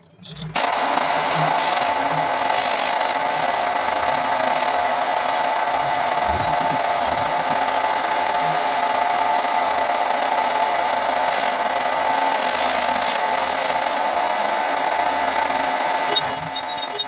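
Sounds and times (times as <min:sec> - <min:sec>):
milling machine cutter whine: 0:00.0 - 0:17.0.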